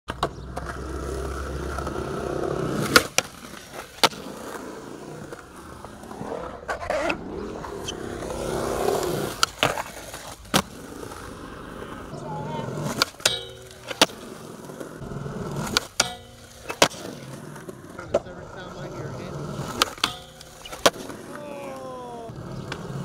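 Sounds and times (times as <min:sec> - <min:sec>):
skateboard clacks: 0:00.1 - 0:05.5, 0:08.2 - 0:23.0
skateboard grinding on concrete ledge: 0:00.1 - 0:23.0
skateboard wheels rolling on concrete: 0:00.1 - 0:23.0.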